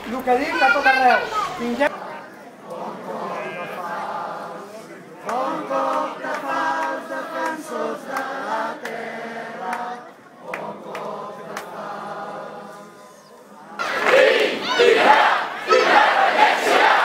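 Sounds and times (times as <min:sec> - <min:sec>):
crowd singing a slow song: 0:01.8 - 0:17.0.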